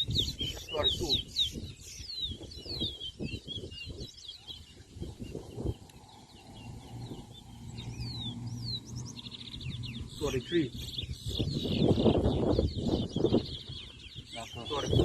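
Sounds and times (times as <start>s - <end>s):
finch singing whistled notes: 0.0s - 15.0s.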